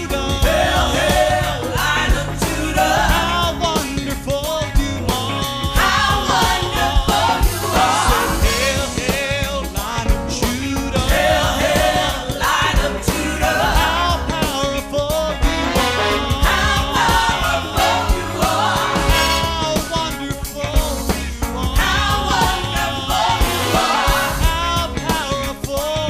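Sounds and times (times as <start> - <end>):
gospel band playing: 0.0 - 26.0
steady drum beat: 0.0 - 26.0.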